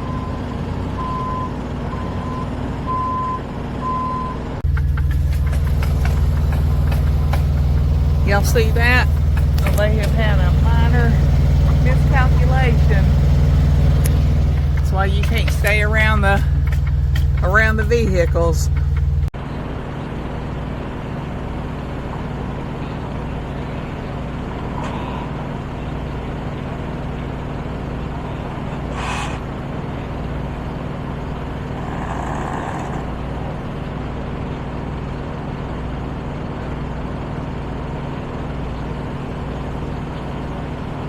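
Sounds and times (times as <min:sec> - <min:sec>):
truck diesel engine idling: 0:00.0 - 0:41.0.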